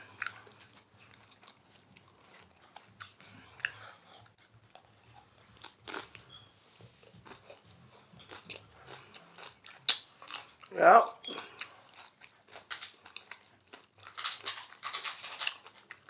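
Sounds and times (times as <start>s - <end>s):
faint chewing of crunchy taco: 0.0s - 16.0s.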